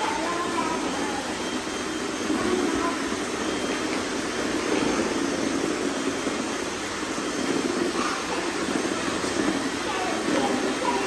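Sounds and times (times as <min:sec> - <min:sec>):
robot vacuums humming: 0:00.0 - 0:11.0.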